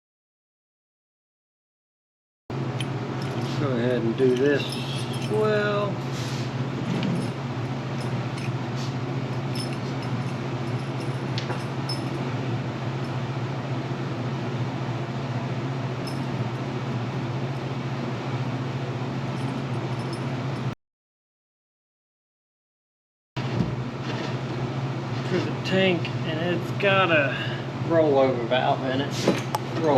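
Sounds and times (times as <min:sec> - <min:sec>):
low mechanical hum: 0:02.5 - 0:20.8, 0:23.4 - 0:29.9.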